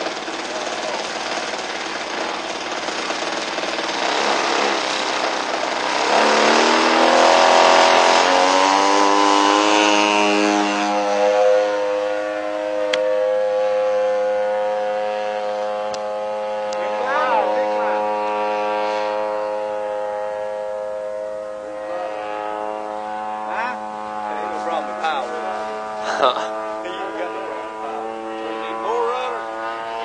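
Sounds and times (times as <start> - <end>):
model plane engine running: 0.0 - 30.0.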